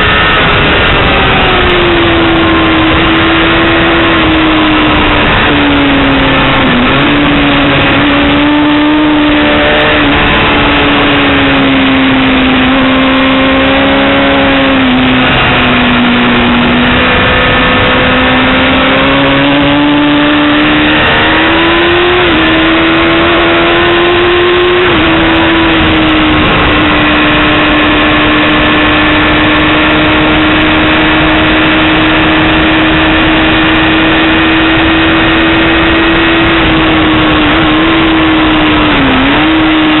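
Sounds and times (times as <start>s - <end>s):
sport bike engine running loud: 0.0s - 40.0s.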